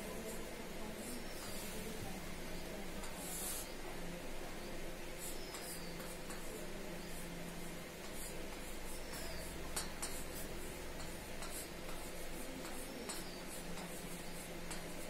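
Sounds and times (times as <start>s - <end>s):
chalk scratching on blackboard: 0.2s - 2.0s, 2.6s - 3.9s, 5.1s - 15.0s.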